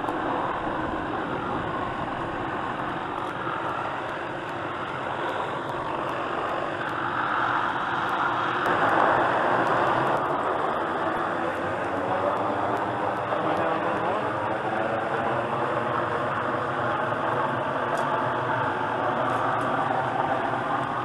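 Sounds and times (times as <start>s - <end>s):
helicopter overhead: 0.0s - 21.0s.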